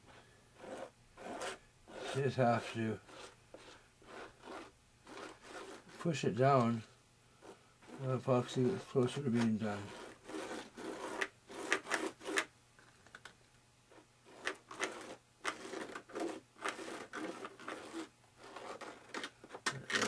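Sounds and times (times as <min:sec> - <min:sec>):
stick scraping epoxy on foam: 0:00.0 - 0:06.8, 0:07.4 - 0:12.5, 0:13.9 - 0:20.0.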